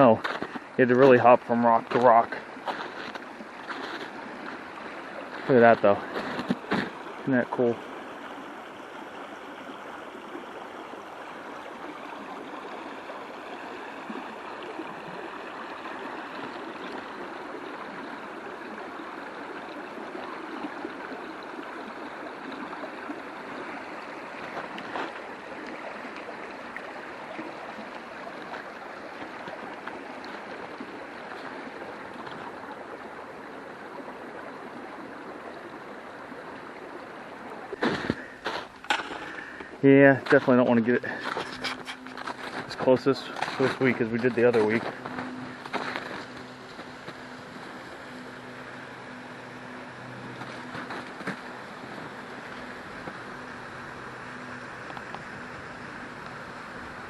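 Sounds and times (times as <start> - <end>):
water rushing under ice: 0.0 - 57.0.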